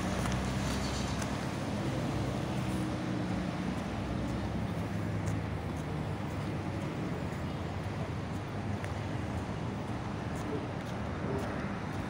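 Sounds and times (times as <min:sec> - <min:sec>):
outdoor street noise: 0:00.0 - 0:12.0
vehicle engine humming: 0:00.0 - 0:12.0.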